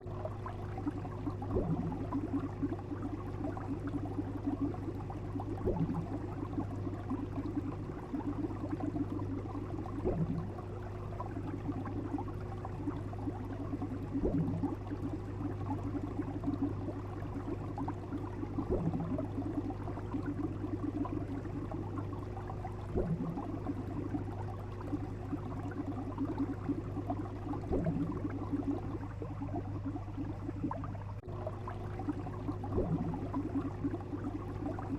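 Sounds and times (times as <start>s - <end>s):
bubbling water: 0.0s - 34.9s
low hum: 0.0s - 34.9s
soft pulse: 0.0s - 34.9s.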